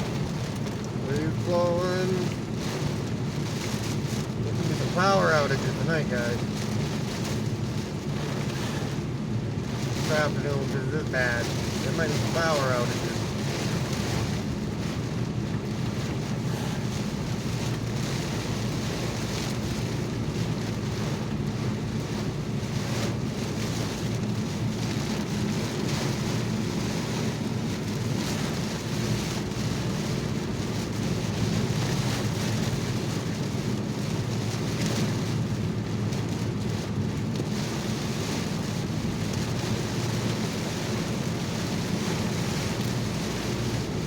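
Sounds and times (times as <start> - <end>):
heavy rain on car: 0.0 - 44.0
tyre noise on wet road: 0.0 - 44.0.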